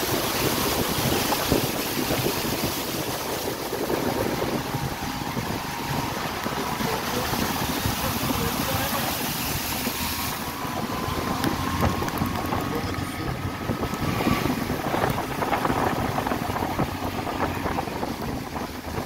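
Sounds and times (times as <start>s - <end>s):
vehicle driving through water: 0.0s - 19.0s
wind buffeting microphone: 0.0s - 19.0s.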